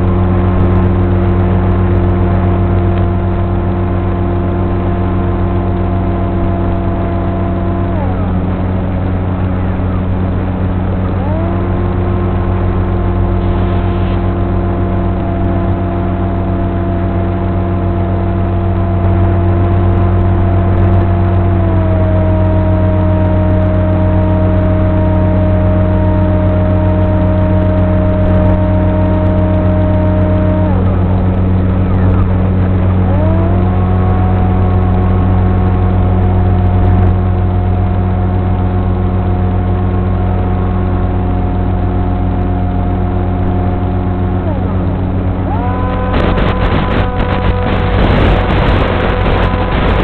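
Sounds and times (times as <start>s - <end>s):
electric motor whine: 0.0s - 50.0s
low rumble: 0.0s - 50.0s.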